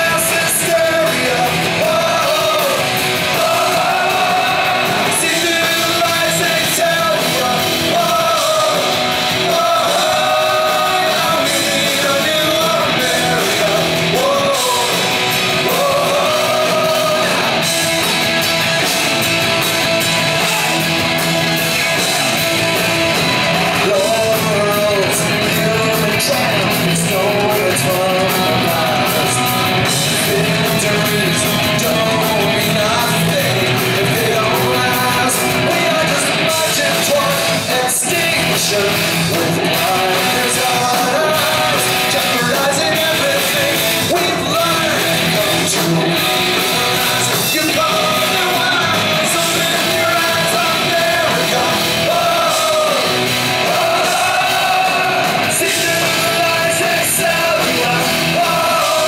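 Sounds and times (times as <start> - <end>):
person singing and shouting: 0.0 - 18.0, 18.8 - 59.0
punk rock band playing live: 0.0 - 59.0.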